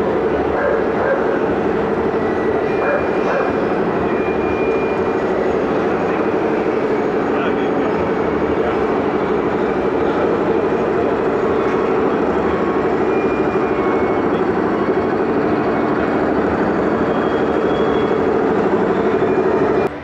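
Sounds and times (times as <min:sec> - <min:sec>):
model excavator machine drone: 0:00.0 - 0:20.0.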